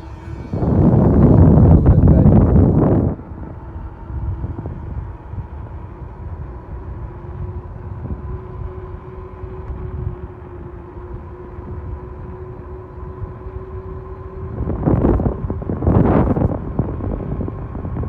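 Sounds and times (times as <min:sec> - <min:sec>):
faint steady whine: 0:00.0 - 0:18.0
wind buffeting microphone: 0:00.0 - 0:18.0.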